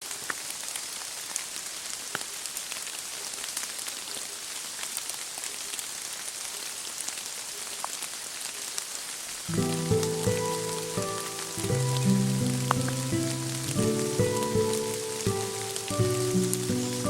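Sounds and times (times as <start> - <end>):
rain falling on leaves: 0.0 - 17.0.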